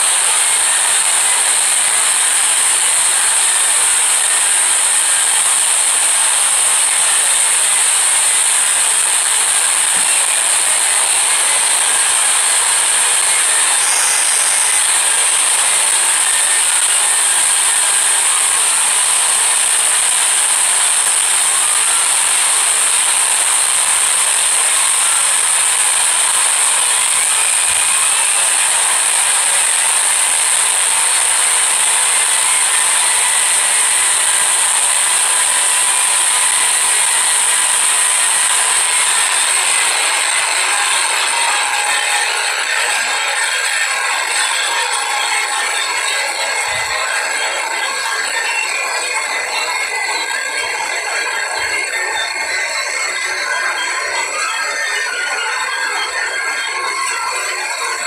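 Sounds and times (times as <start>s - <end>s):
high-pitched static hiss: 0.0s - 58.0s.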